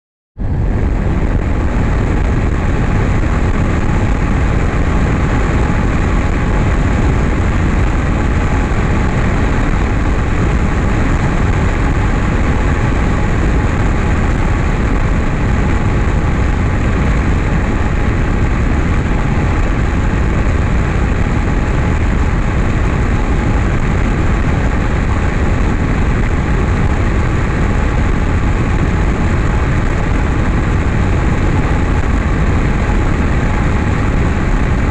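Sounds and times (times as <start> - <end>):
airplane engine and propeller: 0.4 - 34.9
wind rush: 0.4 - 34.9.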